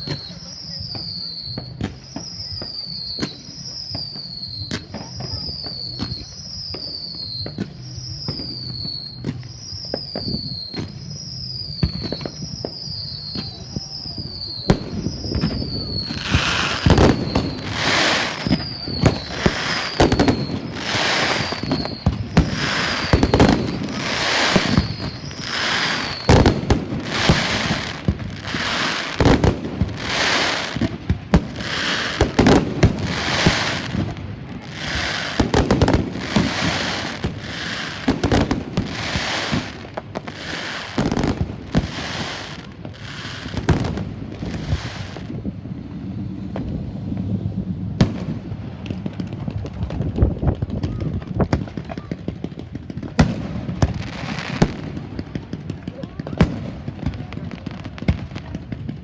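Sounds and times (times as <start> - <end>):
firework falling whistle: 0.0 - 59.0
fireworks bangs: 0.0 - 59.0.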